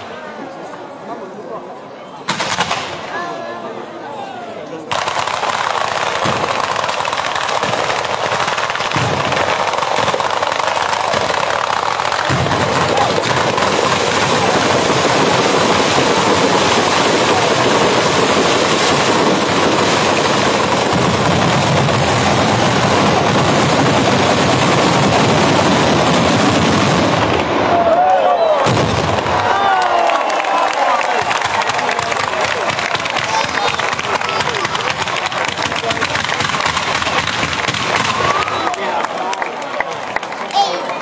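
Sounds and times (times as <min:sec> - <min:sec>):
firecrackers going off: 0:02.3 - 0:03.3, 0:04.9 - 0:41.0.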